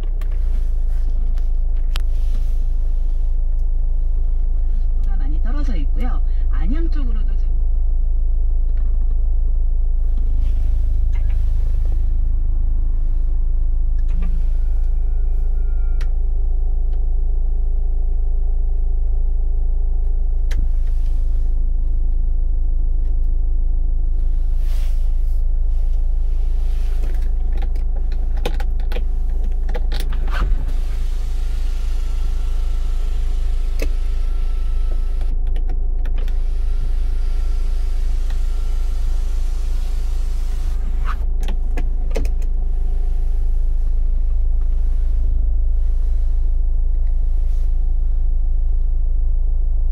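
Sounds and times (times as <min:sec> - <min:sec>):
car engine low rumble: 0:00.0 - 0:49.9.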